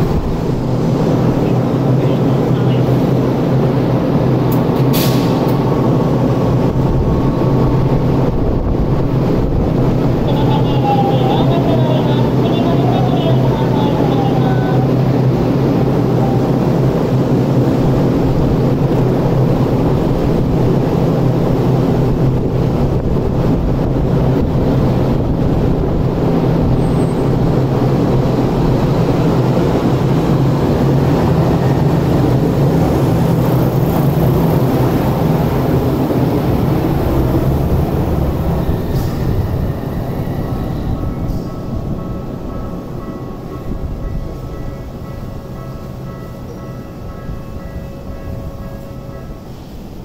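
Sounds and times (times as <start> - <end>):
tram equipment humming: 0.0 - 50.0.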